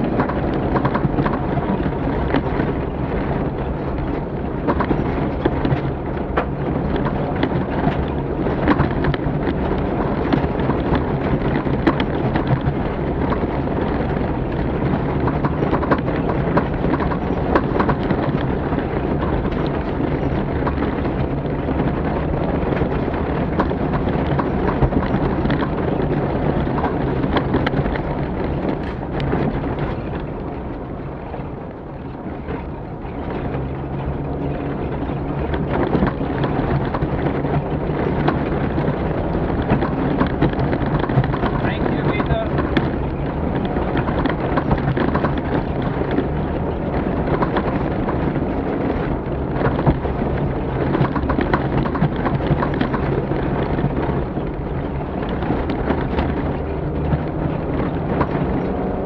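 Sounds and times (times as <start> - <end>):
heavy rumble over rough terrain: 0.0 - 59.0
vehicle engine drone: 0.0 - 59.0.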